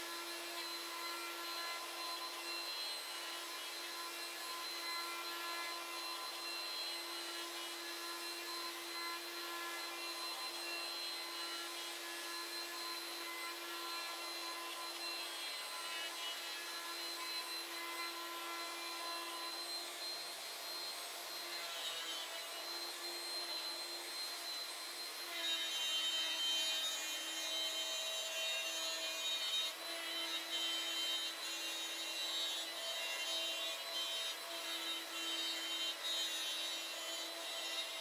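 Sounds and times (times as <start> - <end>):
end mill cutting wood: 0.0 - 38.0
router spindle motor whining: 0.0 - 38.0.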